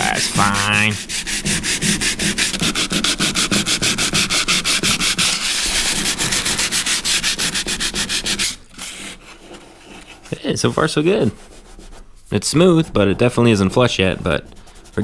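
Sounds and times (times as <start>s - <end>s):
sandpaper rubbing on metal: 0.0s - 15.0s.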